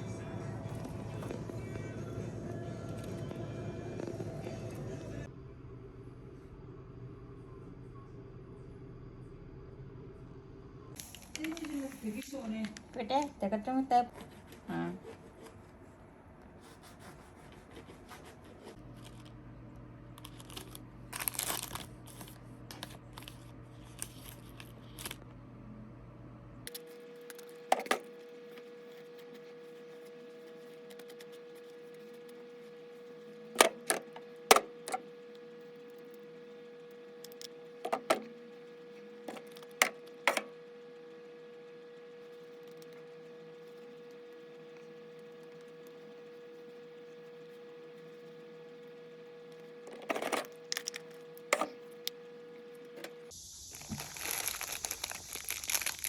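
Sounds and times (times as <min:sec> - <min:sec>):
low steady background hum: 0:00.0 - 0:56.0.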